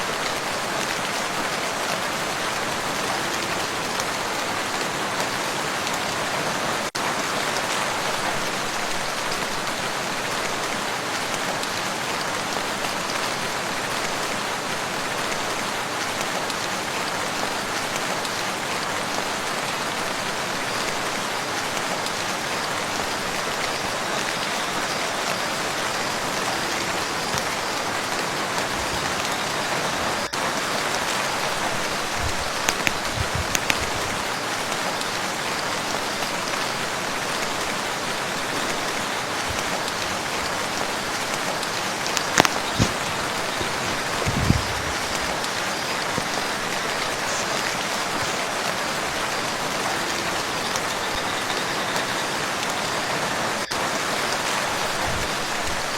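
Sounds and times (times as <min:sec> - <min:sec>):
rain falling on water: 0:00.0 - 0:55.9.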